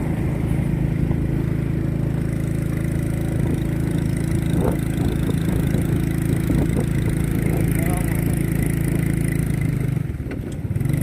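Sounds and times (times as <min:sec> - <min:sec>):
vehicle engine running steadily: 0:00.0 - 0:11.0.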